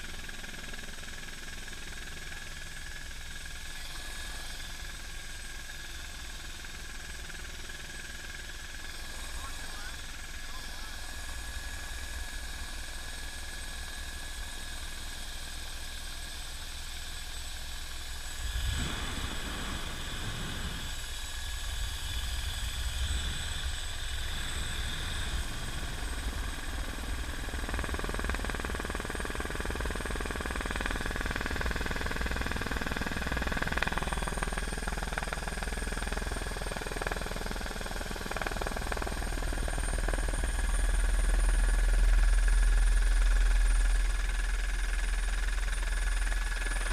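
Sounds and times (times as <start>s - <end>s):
helicopter rotor rumble: 0.0s - 46.9s
helicopter turbine whine: 0.0s - 46.9s.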